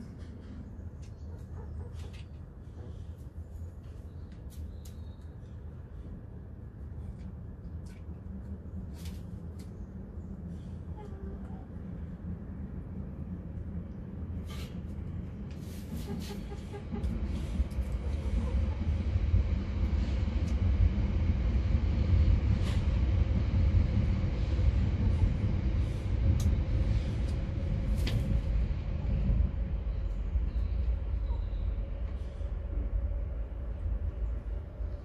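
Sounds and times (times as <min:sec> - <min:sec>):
low rumble: 0:02.6 - 0:35.0.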